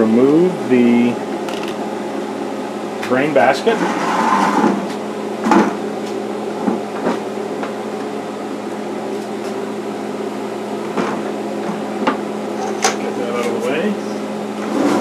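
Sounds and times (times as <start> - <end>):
brewing unit hum: 0.0 - 15.0.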